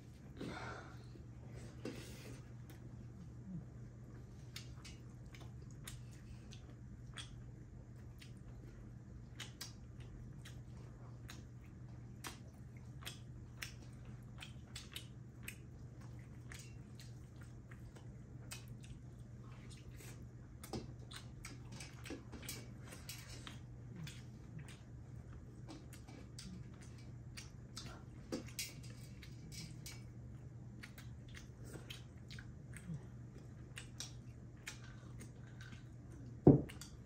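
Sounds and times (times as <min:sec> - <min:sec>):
steady low hum: 0:00.0 - 0:37.0
chewing and lip smacks: 0:01.8 - 0:37.0.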